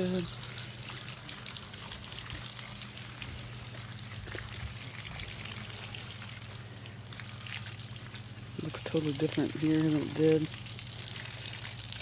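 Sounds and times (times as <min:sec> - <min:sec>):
running splashing water: 0:00.0 - 0:12.0.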